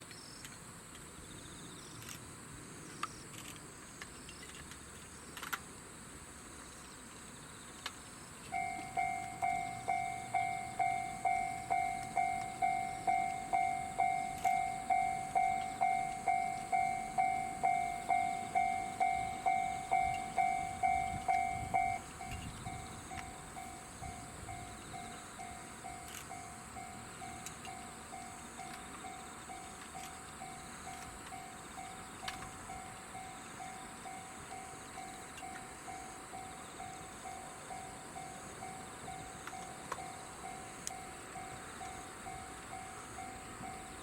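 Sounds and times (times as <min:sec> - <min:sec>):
steady high hiss: 0:00.1 - 0:44.0
level crossing warning bell: 0:08.4 - 0:44.0.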